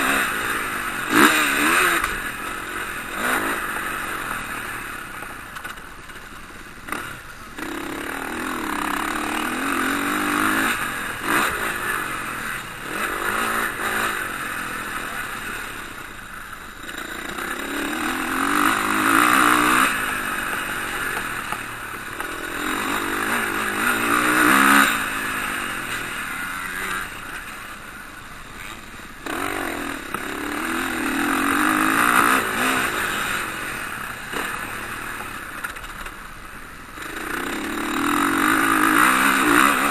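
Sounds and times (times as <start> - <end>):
motocross bikes revving and passing: 0.0 - 39.9.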